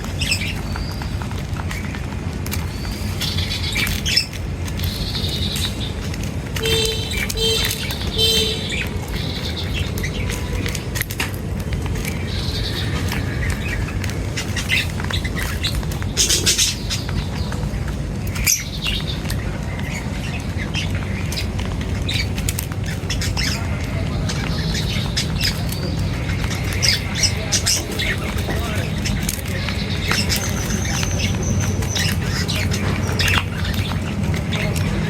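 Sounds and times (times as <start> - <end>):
birds squawking and chirping: 0.0 - 35.0
steady low rumble: 0.0 - 35.0.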